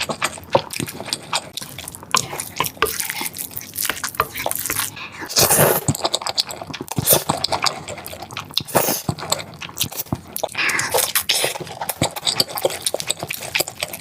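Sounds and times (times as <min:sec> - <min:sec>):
chewing and crunching: 0:00.0 - 0:14.0.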